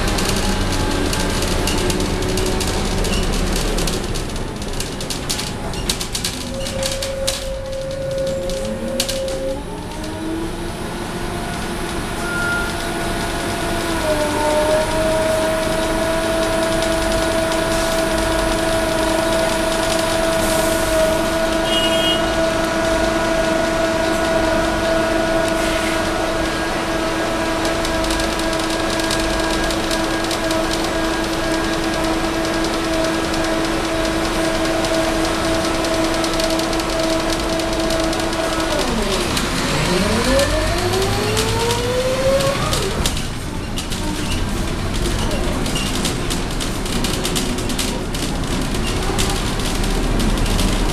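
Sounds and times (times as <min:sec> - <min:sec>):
bus engine whining: 0:00.0 - 0:50.9.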